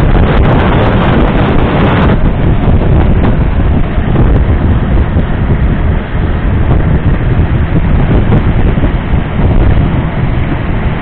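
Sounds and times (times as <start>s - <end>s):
boat diesel engine droning: 0.0s - 11.0s
water rushing past hull: 0.0s - 11.0s
wind buffeting microphone: 0.0s - 11.0s.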